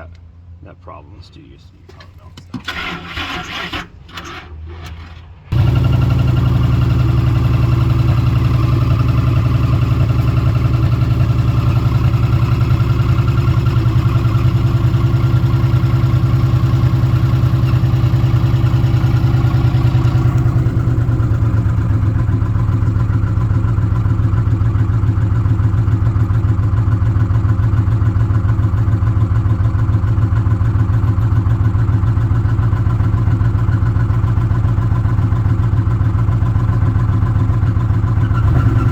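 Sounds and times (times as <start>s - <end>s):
engine running: 0.1s - 33.6s.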